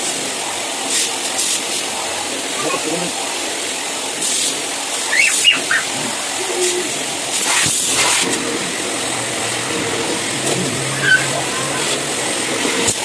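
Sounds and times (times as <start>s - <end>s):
water spray hissing: 0.0s - 13.0s.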